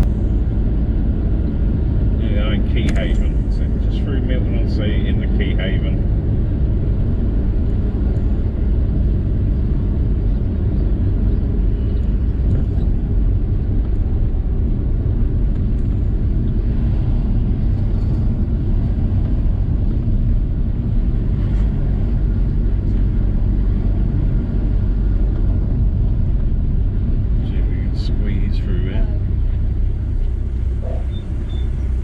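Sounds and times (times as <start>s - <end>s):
van engine and road noise: 0.0s - 32.0s.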